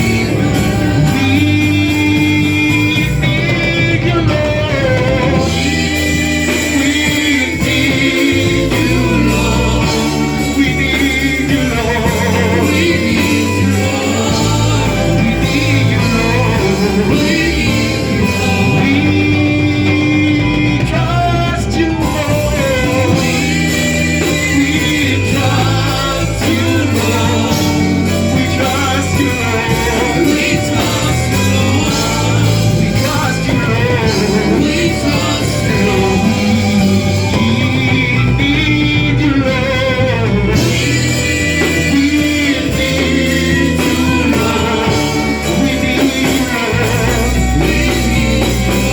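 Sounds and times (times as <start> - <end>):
gospel band music: 0.0 - 48.9
people singing: 0.0 - 48.9.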